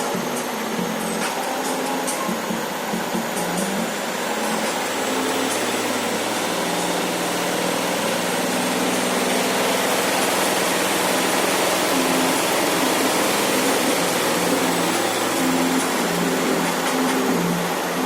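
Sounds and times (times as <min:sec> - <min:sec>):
music from speaker: 0:00.0 - 0:18.0
washing machine whirring: 0:00.0 - 0:18.0.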